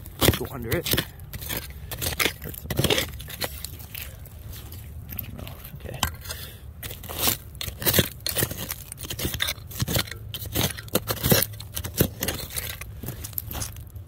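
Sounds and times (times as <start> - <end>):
metal tool digging through dirt: 0.0 - 14.0.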